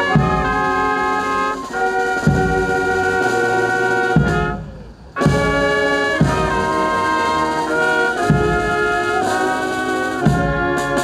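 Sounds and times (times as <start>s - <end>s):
brass band playing chords: 0.0s - 11.0s.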